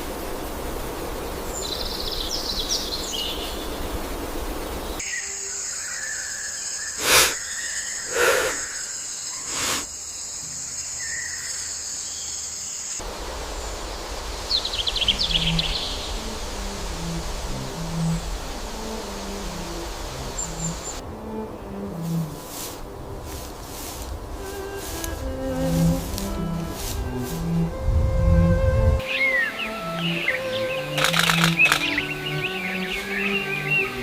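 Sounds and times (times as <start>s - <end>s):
background hiss: 0.0s - 34.0s
high insect buzz: 0.0s - 34.0s
birds chirping: 0.9s - 12.9s, 14.4s - 27.8s, 28.5s - 34.0s.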